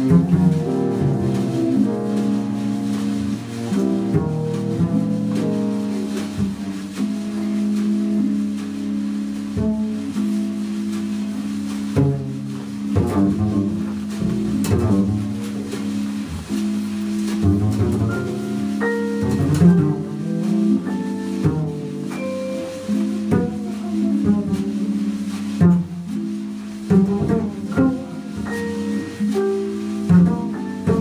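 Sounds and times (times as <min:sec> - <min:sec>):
double bass plucked: 0:00.0 - 0:31.0
jazz ensemble playing: 0:00.0 - 0:31.0.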